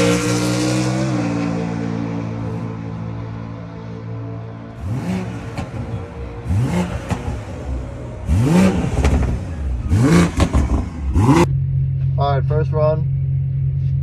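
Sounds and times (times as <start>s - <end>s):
car engine revving: 0.0s - 11.5s.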